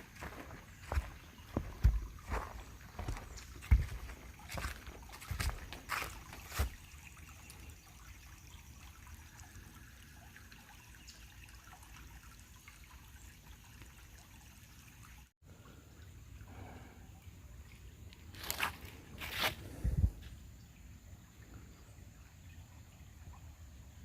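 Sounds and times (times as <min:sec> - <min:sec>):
trickle of running water: 0:00.0 - 0:24.0.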